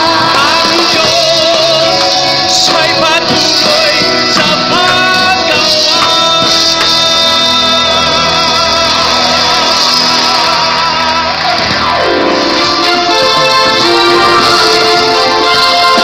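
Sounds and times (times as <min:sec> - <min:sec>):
band playing gospel song: 0:00.0 - 0:16.0.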